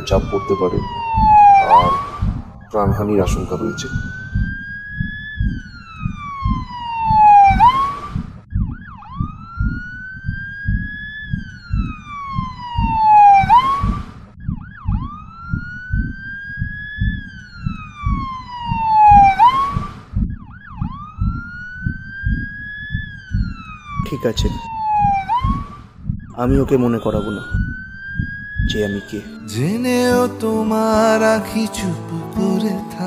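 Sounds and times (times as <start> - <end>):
low pulsing: 0.0 - 29.8
emergency siren wailing: 0.0 - 33.0.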